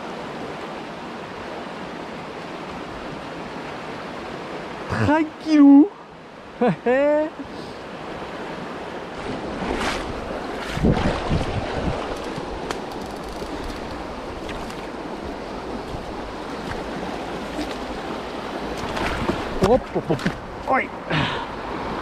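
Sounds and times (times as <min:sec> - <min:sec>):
river current rushing: 0:00.0 - 0:22.0.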